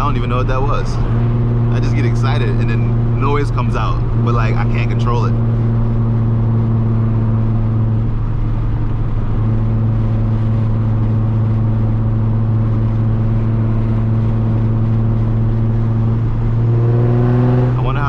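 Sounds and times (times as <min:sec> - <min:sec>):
car engine cruising drone: 0:00.0 - 0:18.0.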